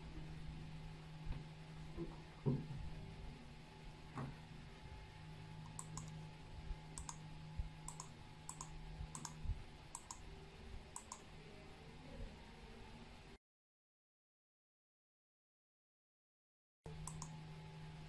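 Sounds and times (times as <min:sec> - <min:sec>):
steady low hum: 0:00.0 - 0:13.4, 0:16.9 - 0:18.0.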